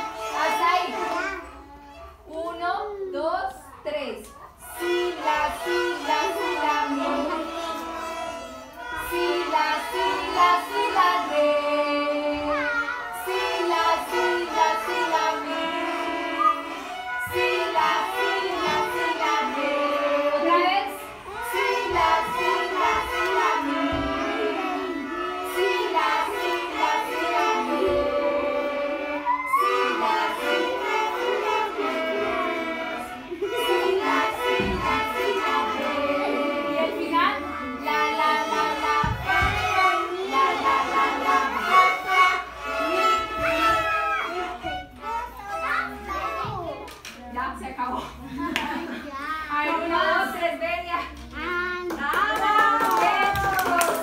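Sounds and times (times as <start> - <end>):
group playing violins: 0.0 - 2.3, 4.6 - 46.9.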